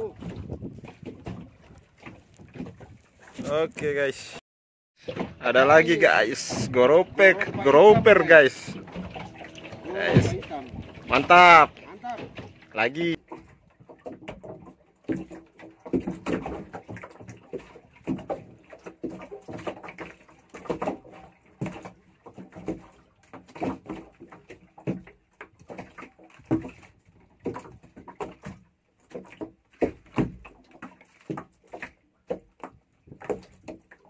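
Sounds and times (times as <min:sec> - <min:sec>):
wooden boat knocking: 0:00.0 - 0:03.5, 0:05.0 - 0:34.0
water slapping boat hull: 0:00.0 - 0:04.4, 0:05.0 - 0:34.0.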